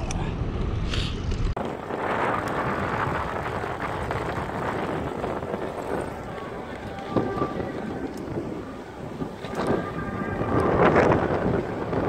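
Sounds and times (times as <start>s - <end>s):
rushing wind and riding noise: 0.0s - 12.0s
wind buffeting microphone: 0.0s - 12.0s.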